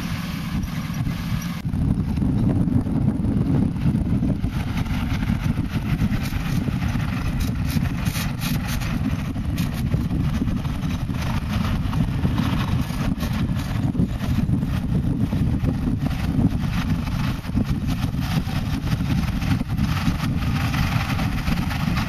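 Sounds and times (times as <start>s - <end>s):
tractor engine under load: 0.0s - 22.0s.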